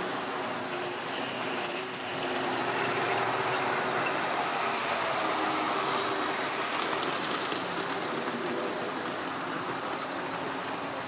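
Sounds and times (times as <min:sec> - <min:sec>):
model train wheels rumbling: 0:00.0 - 0:11.0.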